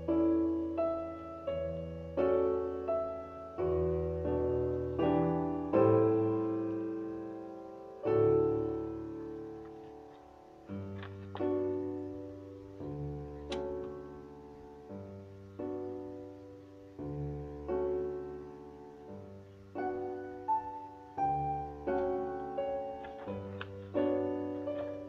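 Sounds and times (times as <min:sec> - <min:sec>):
solo classical piano: 0:00.0 - 0:25.0.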